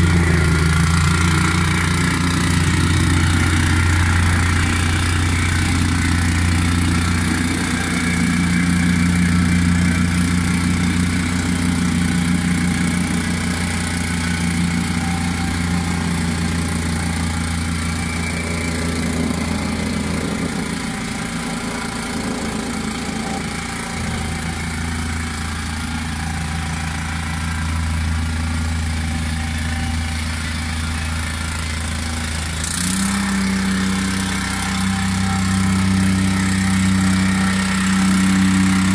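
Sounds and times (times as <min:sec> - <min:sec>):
plate compactor engine running: 0:00.0 - 0:38.9.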